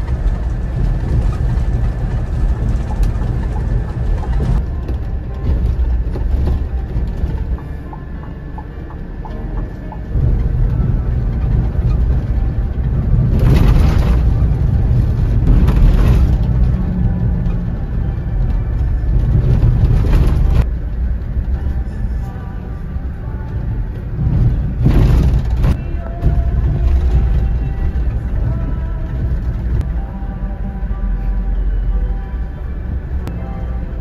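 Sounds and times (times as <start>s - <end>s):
bus engine and road rumble: 0.0s - 34.0s.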